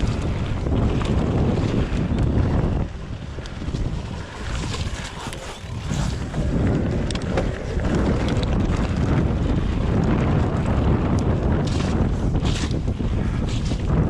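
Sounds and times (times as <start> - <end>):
bike tyres rumbling over rough trail: 0.0 - 14.0
wind buffeting microphone: 0.0 - 14.0.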